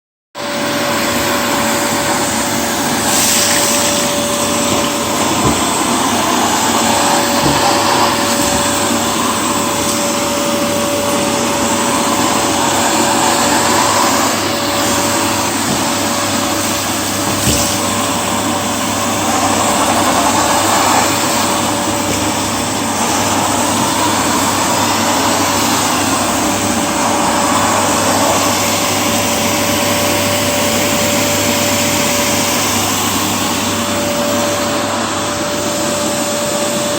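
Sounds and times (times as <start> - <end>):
vacuum cleaner running on carpet: 0.4 - 36.9.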